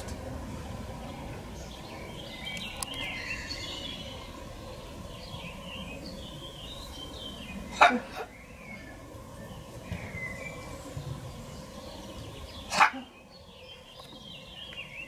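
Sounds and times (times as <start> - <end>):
steady outdoor hiss: 0.0 - 15.0
small birds chirping: 0.4 - 15.0.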